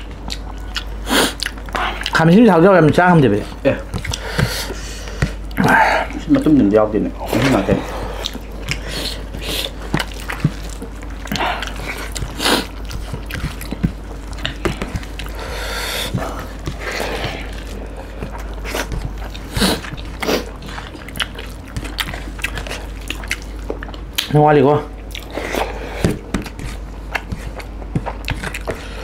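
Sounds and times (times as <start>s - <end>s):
people eating by hand: 0.0s - 29.0s.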